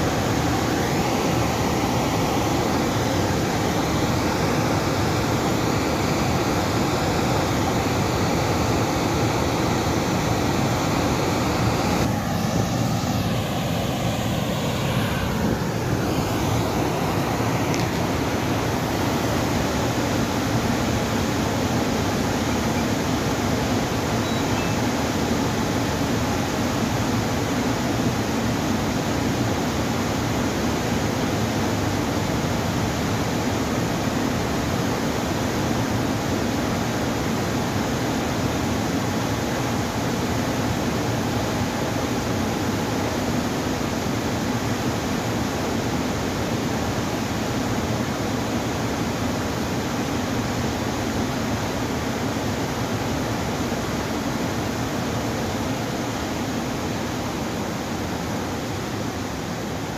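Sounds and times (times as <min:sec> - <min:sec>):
water rushing through sluice gates: 0:00.0 - 0:59.9.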